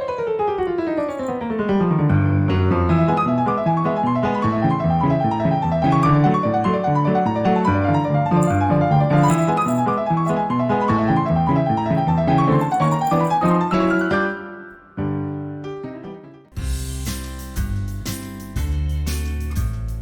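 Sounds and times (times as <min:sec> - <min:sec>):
piano music: 0:00.0 - 0:16.7.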